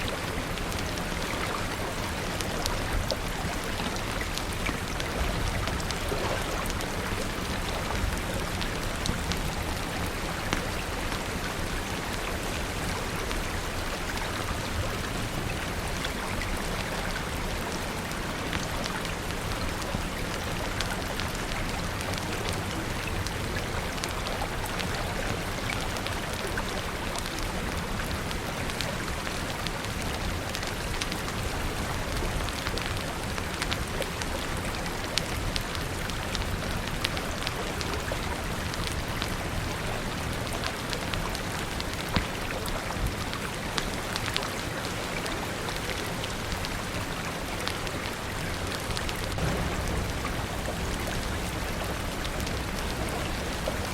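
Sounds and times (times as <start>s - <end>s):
steady rain: 0.0s - 53.9s
wood fire crackling: 0.0s - 53.9s.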